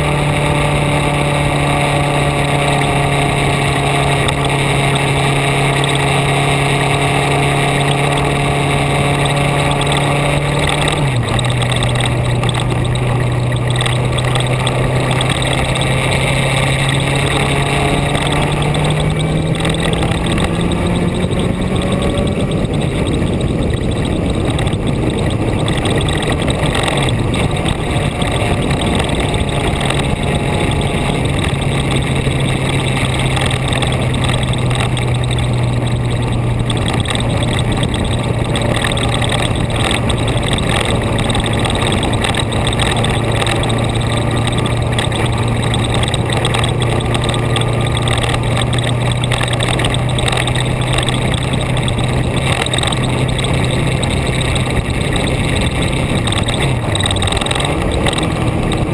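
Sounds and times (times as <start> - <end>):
vehicle engine running: 0.0 - 58.9
wind and road noise: 0.0 - 58.9.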